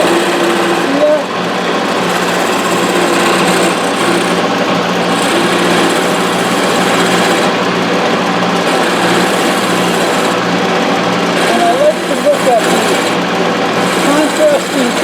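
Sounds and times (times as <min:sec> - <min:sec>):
turning tool rasping into wood: 0:00.0 - 0:15.0
wood lathe humming: 0:00.0 - 0:15.0.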